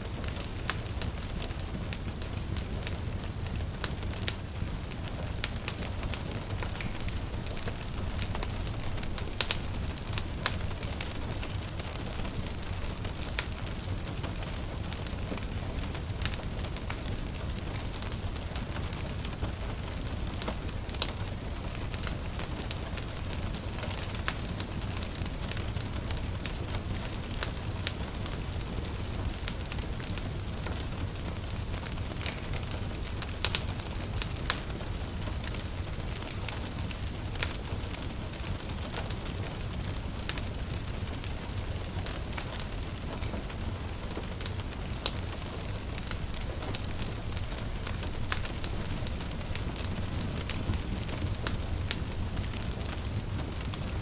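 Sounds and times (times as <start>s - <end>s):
rain pattering: 0.0s - 54.0s
wood fire crackling: 0.0s - 54.0s.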